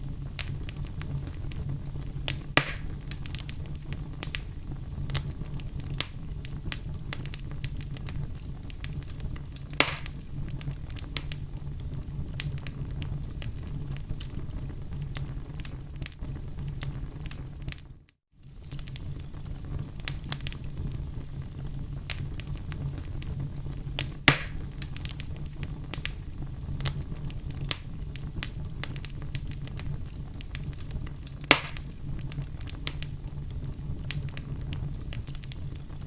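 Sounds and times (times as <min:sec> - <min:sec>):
low rumble of flames: 0:00.0 - 0:36.0
wood fire popping: 0:00.0 - 0:36.0.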